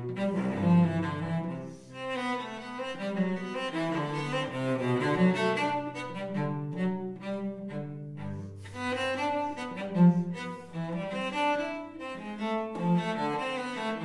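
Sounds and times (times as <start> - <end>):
bowed cello melody: 0.0 - 14.0.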